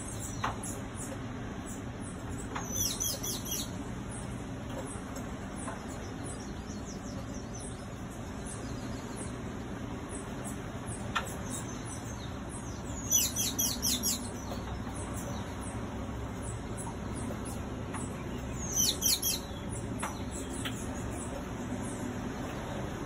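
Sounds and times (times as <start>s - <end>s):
funicular car humming: 0.0s - 23.0s
small birds chirping: 0.0s - 23.0s.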